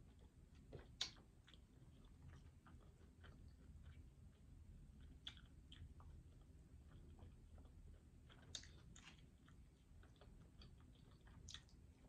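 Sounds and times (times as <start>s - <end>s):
chewing chicken wing: 0.0s - 12.0s.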